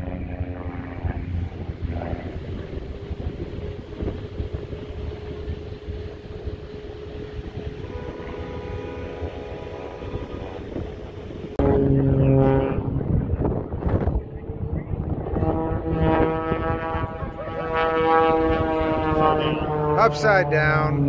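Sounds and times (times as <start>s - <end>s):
airplane engine droning: 0.0s - 21.0s
continuous low rumble: 0.0s - 21.0s.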